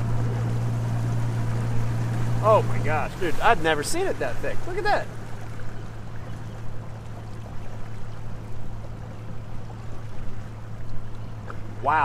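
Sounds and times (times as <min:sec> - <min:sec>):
boat motor humming: 0:00.0 - 0:12.0
water sloshing against hull: 0:00.0 - 0:12.0.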